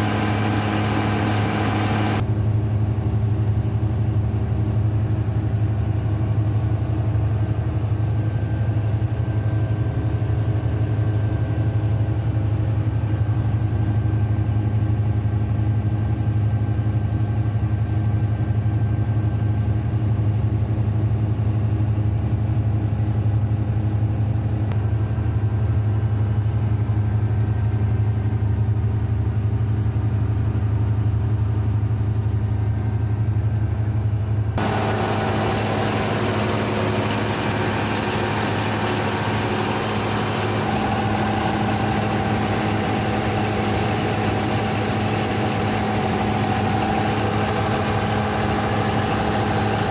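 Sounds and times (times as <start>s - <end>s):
diesel generator engine running: 0.0s - 49.9s.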